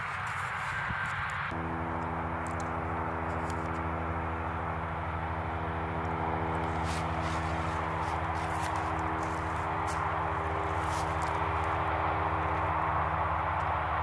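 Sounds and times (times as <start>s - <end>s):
combine harvester running: 0.0s - 14.0s
multi-tone hum: 0.0s - 14.0s.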